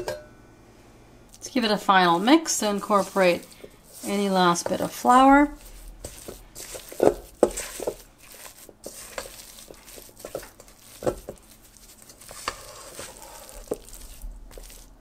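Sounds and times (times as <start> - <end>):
spatula scraping metal bowl: 1.5 - 15.0.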